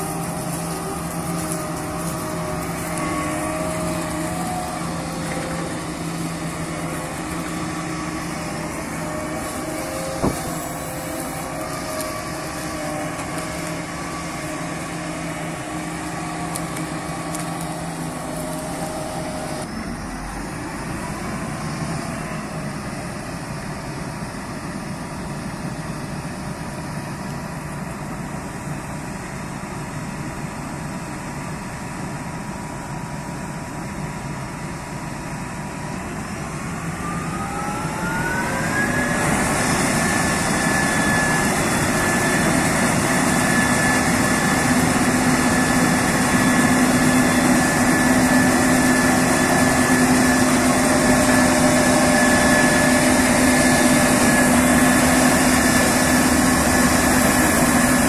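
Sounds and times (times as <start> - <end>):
combine harvester running with whine: 0.0 - 58.0.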